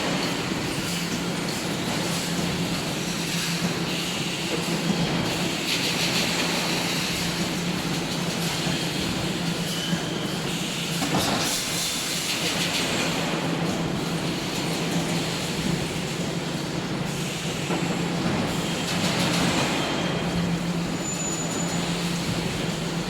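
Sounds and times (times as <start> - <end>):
welding machine humming and clattering: 0.0 - 23.0.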